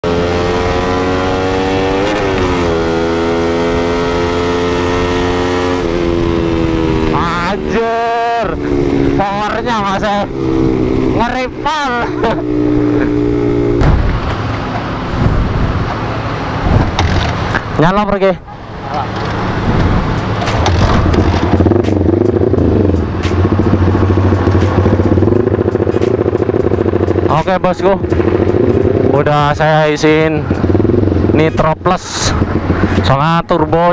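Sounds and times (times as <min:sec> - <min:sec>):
motorcycle engine shifting gears: 0:00.0 - 0:17.8, 0:18.4 - 0:33.2.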